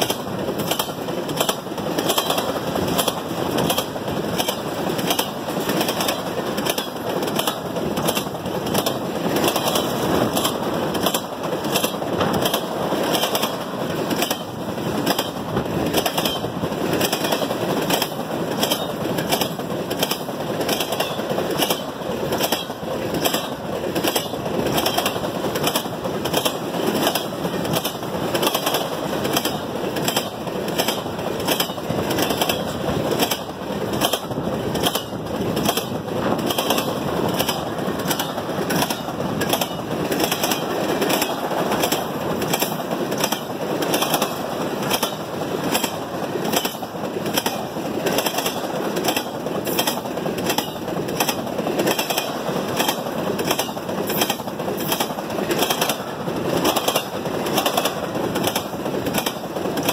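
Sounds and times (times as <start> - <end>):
freight cars clicking and clanking: 0.0 - 59.9
train wheels rumbling on rails: 0.0 - 59.9.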